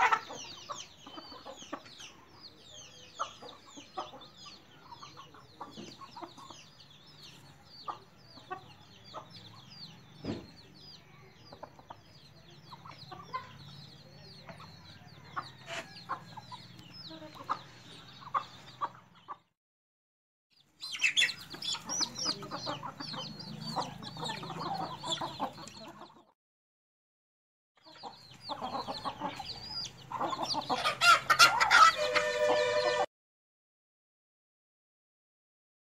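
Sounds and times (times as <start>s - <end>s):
chickens clucking: 0.0s - 19.5s, 20.6s - 26.4s, 27.8s - 33.1s
chicks peeping: 0.0s - 19.5s, 20.6s - 26.4s, 27.8s - 33.1s.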